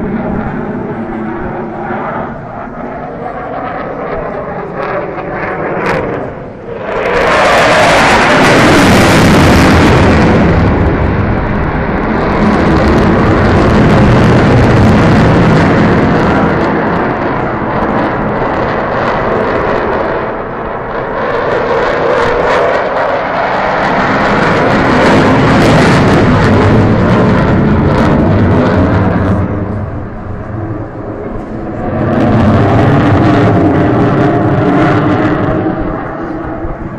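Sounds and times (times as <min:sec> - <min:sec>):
jet engine roar: 0:00.0 - 0:36.9.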